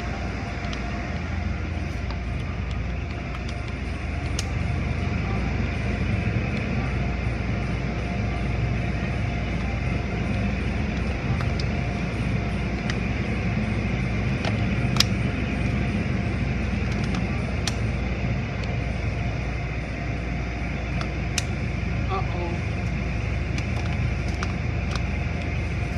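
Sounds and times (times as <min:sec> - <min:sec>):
car wash machinery rumble: 0:00.0 - 0:25.9.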